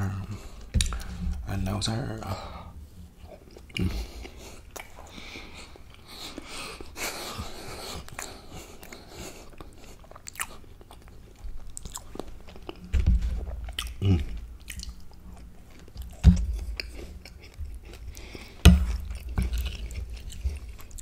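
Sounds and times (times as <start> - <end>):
mouth chewing food: 3.2 - 21.0.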